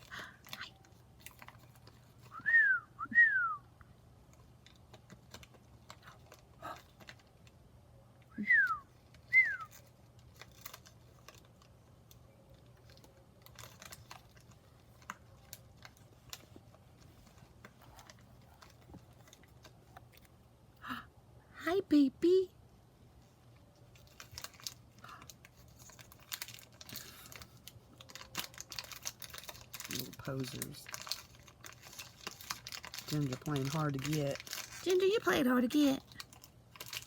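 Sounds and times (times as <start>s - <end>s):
puppy chewing plastic bottle: 0.0s - 2.4s, 4.2s - 7.6s, 9.0s - 20.5s, 23.8s - 37.0s.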